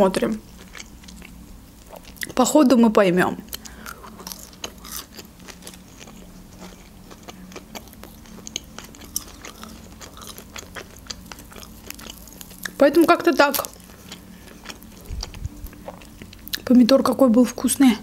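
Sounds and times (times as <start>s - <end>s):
chewing and mouth sounds: 0.6s - 2.4s, 3.5s - 16.7s.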